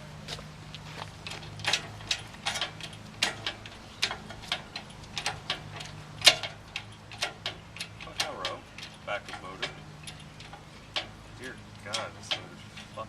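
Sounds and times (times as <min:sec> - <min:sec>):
sharp metal clicks and clinks: 0:01.2 - 0:13.0.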